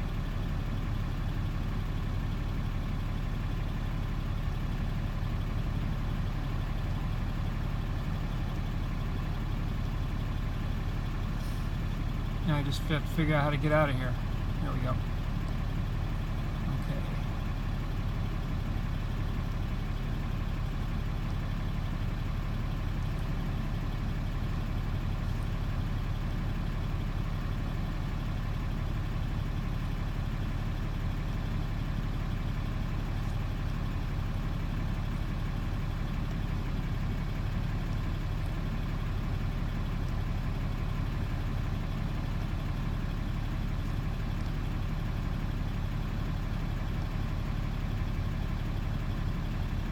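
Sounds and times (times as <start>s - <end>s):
truck engine idling: 0.0s - 49.9s.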